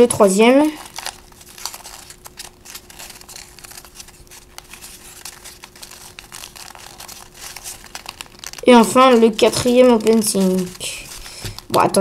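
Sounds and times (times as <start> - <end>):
paper crinkling and rustling: 0.0 - 12.0.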